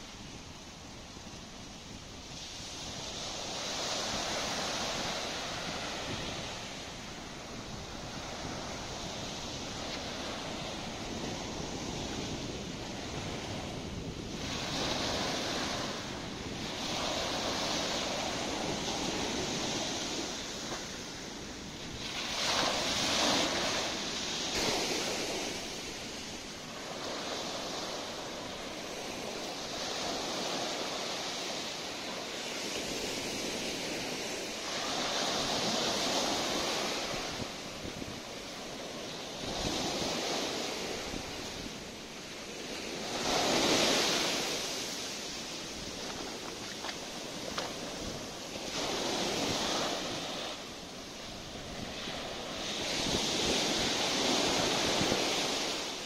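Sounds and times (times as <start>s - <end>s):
small surf washing on sand: 0.0s - 56.0s.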